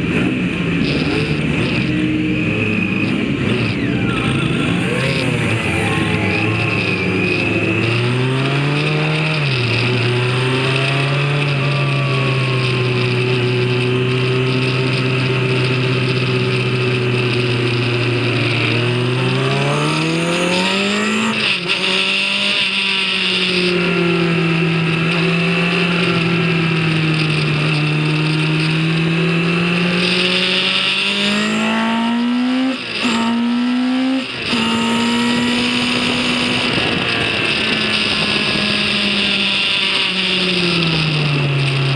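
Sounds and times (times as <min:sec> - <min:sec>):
racing engine at speed: 0:00.0 - 0:41.9.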